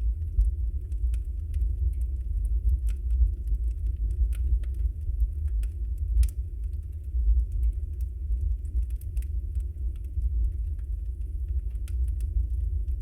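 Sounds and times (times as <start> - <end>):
fire crackles and pops: 0.0 - 13.0
fire rumbling in fireplace: 0.0 - 13.0.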